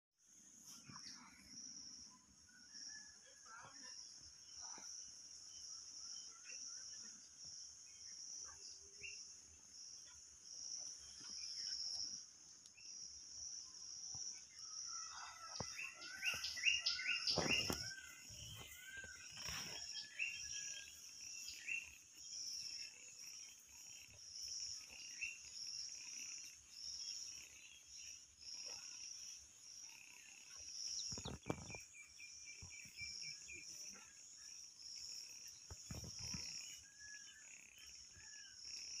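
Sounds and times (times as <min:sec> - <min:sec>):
bird chirping: 0:00.7 - 0:39.0
insects chirring: 0:00.8 - 0:39.0.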